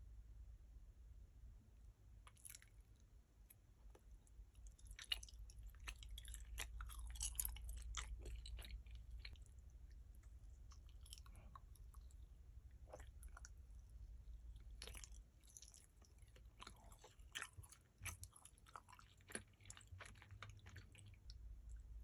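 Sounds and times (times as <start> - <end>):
chewing gummy candy: 2.2 - 22.0.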